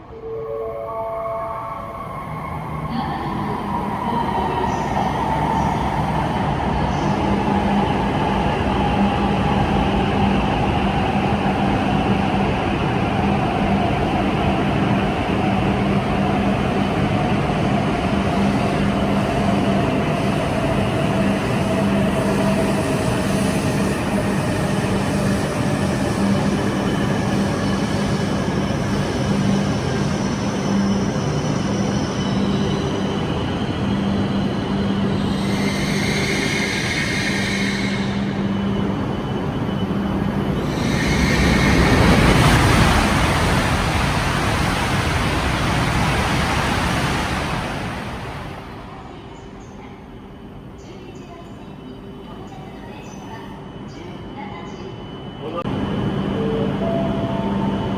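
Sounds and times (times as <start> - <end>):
train wheels and air rushing: 2.3 - 49.7.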